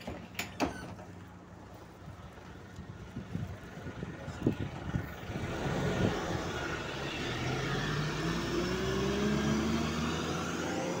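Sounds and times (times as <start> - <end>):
road and tyre noise: 0.0 - 11.0
bus engine accelerating: 1.1 - 11.0.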